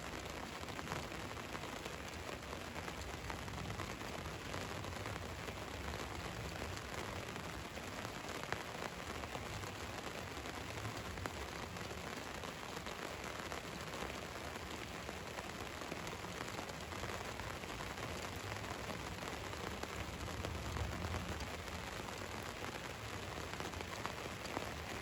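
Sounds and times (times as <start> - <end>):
rain on a van: 0.0 - 25.0.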